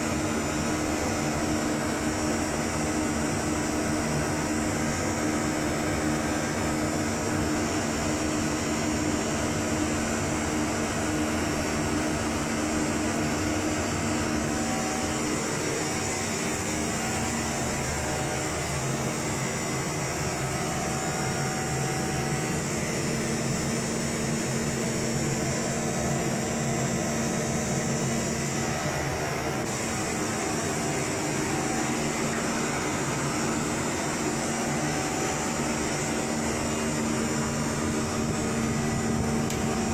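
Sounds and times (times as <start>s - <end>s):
cooling fans whirring: 0.0s - 39.9s.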